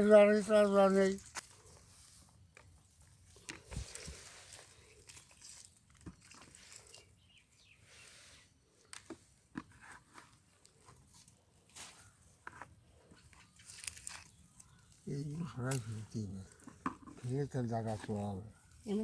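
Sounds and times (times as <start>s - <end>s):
faint clicks and rustles: 1.0s - 7.2s, 8.7s - 19.0s.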